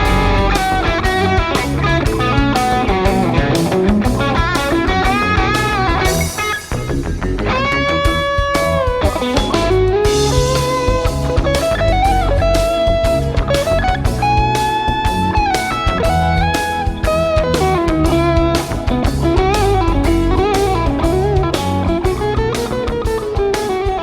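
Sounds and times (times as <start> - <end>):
backing track with drums and bass: 0.0 - 24.0
electric guitar lead melody: 0.0 - 24.0.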